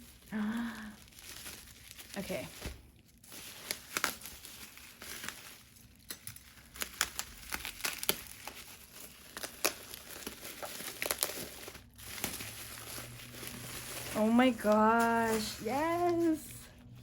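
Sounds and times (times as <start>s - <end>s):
packaging crinkling: 0.0s - 17.0s.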